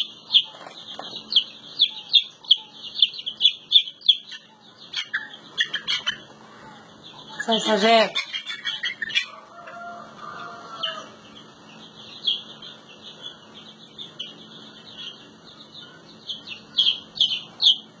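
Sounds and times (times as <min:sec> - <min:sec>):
chick peeping: 0:00.0 - 0:18.0.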